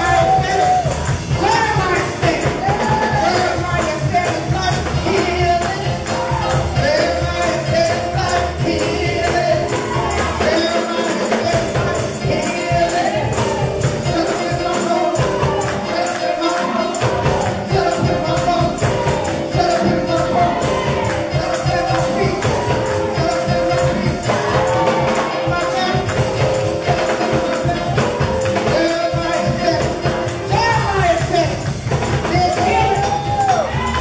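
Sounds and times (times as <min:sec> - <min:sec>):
voices singing together: 0:00.0 - 0:31.1
tambourine shaking: 0:00.0 - 0:34.0.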